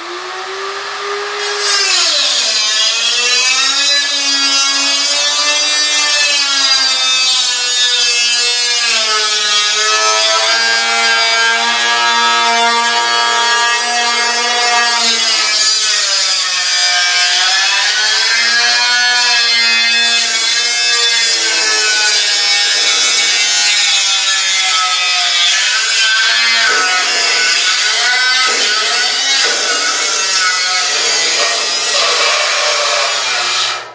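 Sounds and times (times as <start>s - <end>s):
power tool cutting metal: 0.0s - 33.9s.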